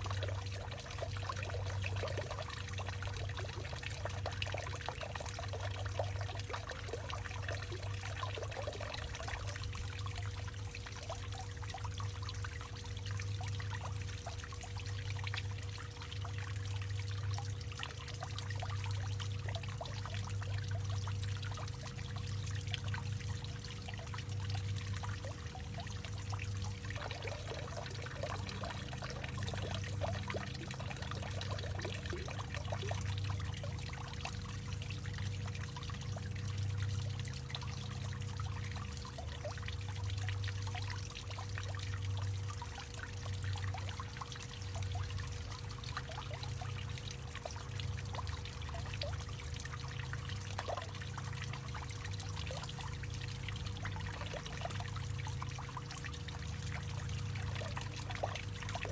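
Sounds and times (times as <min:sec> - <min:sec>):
low pulsing hollow hum: 0:00.0 - 0:58.9
small bubbling plinks: 0:00.0 - 0:58.9
water trickling and pouring: 0:00.0 - 0:58.9.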